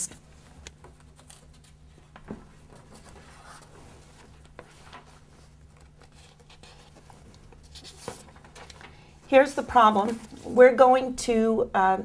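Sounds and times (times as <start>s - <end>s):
paper sheets rustling: 0.0s - 10.8s.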